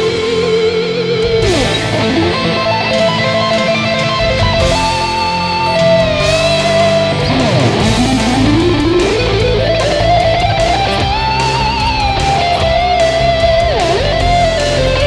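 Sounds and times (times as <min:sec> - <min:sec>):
backing track: 0:00.0 - 0:15.0
electric guitar lead: 0:00.0 - 0:15.0.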